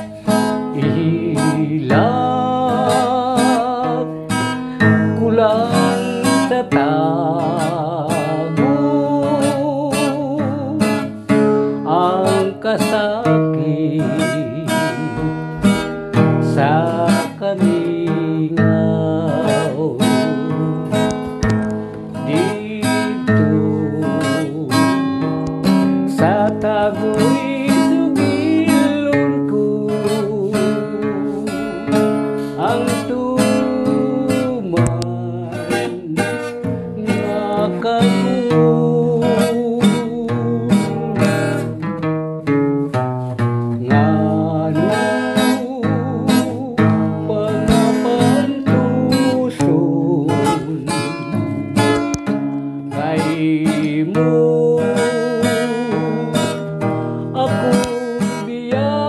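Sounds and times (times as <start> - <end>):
acoustic guitar strumming: 0.0 - 59.0
man singing a slow ballad: 0.0 - 59.0.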